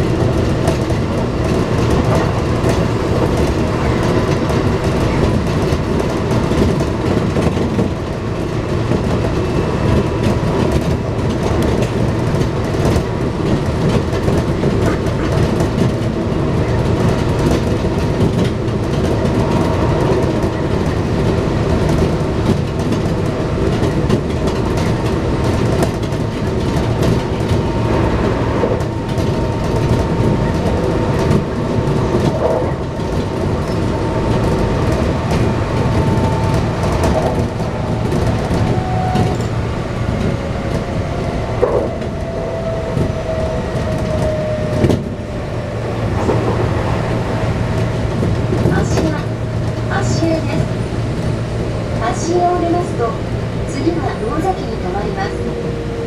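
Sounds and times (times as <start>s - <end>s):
oncoming train passing: 0.0s - 56.0s
train running rumble: 0.0s - 56.0s.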